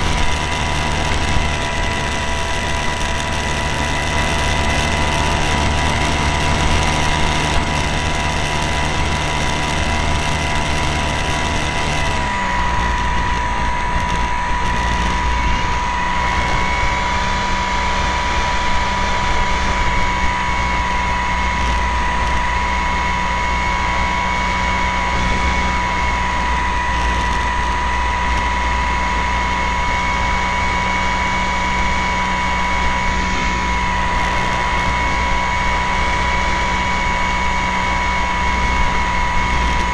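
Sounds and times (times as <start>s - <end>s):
plane engine droning: 0.0s - 39.9s.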